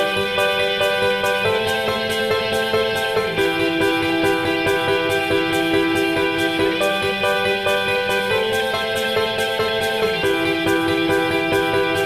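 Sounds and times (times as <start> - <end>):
instrumental music with light beat: 0.0 - 12.0.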